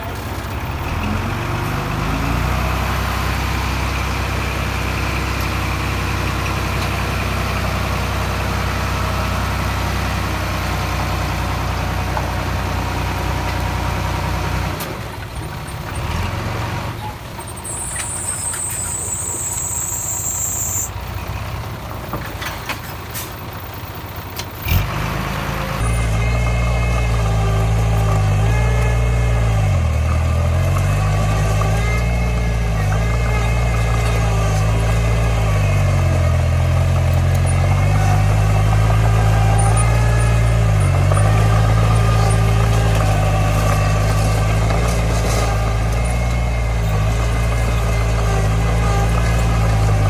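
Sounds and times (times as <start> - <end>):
diesel engines droning: 0.0 - 50.0
engine with wavering pitch: 0.0 - 50.0.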